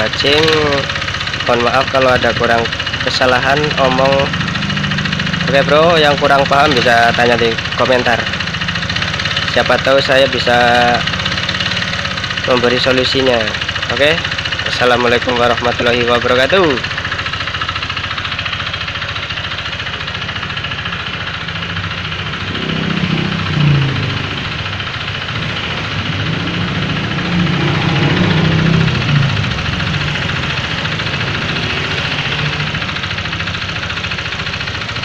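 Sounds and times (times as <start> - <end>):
scooter engine idling with knock: 0.0 - 35.0.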